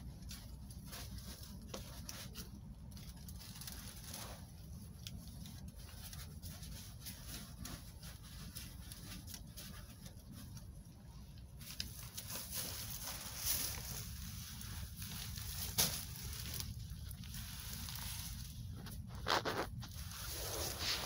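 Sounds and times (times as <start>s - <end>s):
low steady rumble: 0.0s - 21.0s
plastic sheeting and straw rustling: 0.0s - 21.0s.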